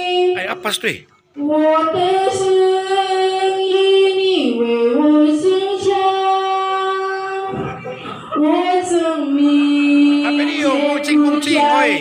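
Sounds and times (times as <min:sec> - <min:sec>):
woman singing over loudspeakers: 0:00.0 - 0:00.4, 0:01.3 - 0:12.0.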